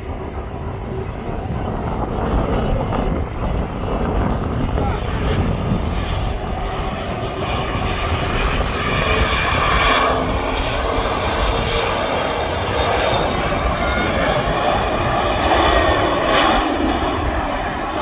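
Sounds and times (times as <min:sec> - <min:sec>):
airplane engines rumbling: 0:00.0 - 0:18.0
engine whine: 0:00.0 - 0:18.0.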